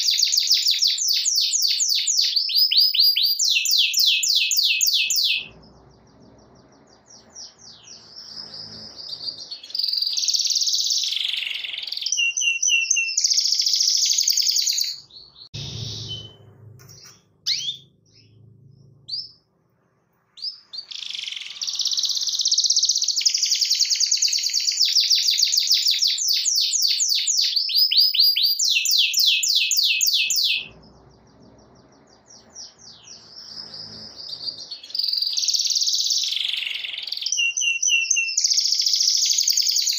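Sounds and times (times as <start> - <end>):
canary singing trills: 0.0 - 19.5, 20.4 - 39.9.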